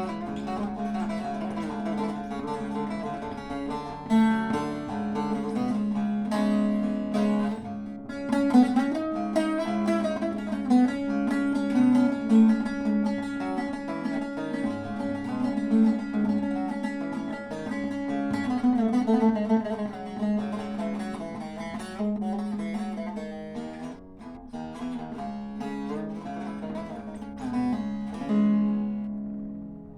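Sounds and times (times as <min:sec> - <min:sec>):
plucked lute improvisation: 0:00.0 - 0:29.9.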